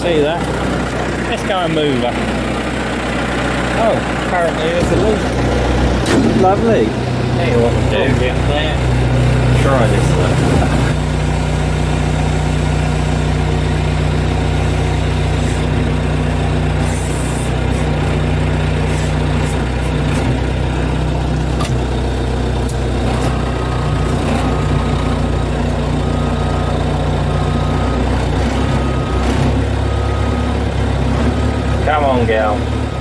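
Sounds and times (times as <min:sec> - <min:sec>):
truck engine under load: 0:00.0 - 0:33.0.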